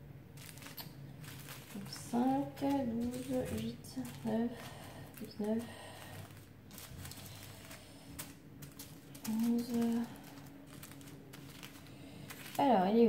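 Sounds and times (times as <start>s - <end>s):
plastic bags crinkling: 0.3s - 13.0s.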